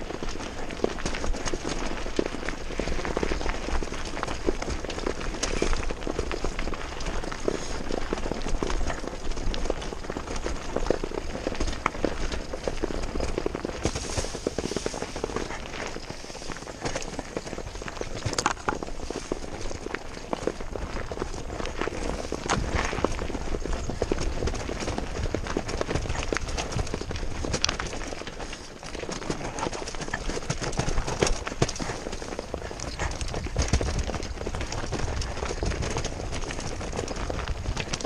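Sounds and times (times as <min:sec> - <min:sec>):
bike rattling and clattering: 0:00.0 - 0:38.0
tyres crunching over stones: 0:00.0 - 0:38.0
wind rumble on microphone: 0:00.0 - 0:38.0.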